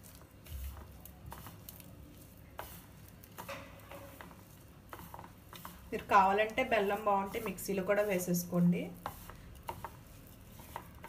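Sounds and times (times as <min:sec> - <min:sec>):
hand kneading dough squishing: 0:00.0 - 0:11.0.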